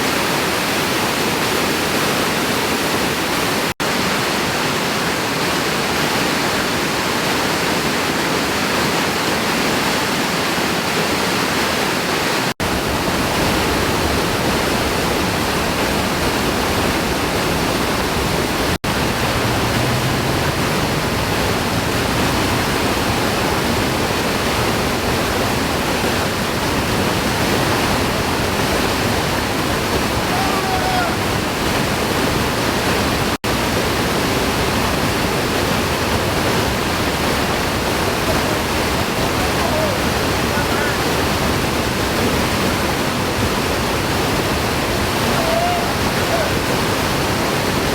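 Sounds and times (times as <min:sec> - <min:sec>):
waterfall pouring: 0:00.0 - 0:47.9.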